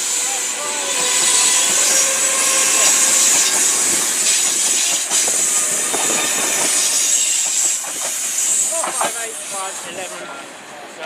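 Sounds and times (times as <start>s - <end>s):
electric train hiss: 0.0s - 10.2s.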